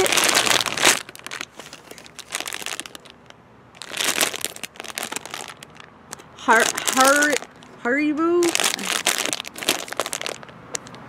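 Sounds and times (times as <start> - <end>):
wrapping paper crumpling: 0.0 - 7.7, 8.4 - 11.0
plastic bag crinkling: 0.0 - 11.0.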